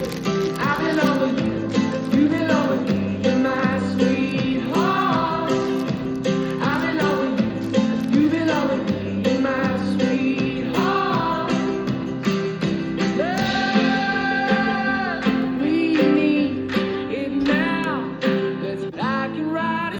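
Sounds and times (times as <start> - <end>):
song with singing over guitar: 0.0 - 19.9.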